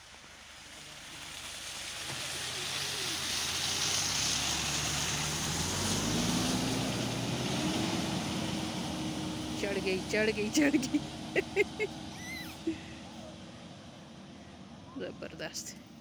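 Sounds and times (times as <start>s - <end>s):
suv engine approaching: 0.0s - 16.0s
tyres hissing through slush: 0.3s - 13.5s.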